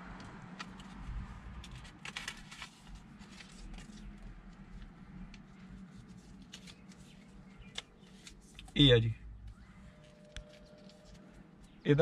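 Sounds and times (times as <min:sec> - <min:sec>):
low steady hum: 0:00.0 - 0:12.0
paper packet rustling and crinkling: 0:00.5 - 0:08.9, 0:09.8 - 0:11.7.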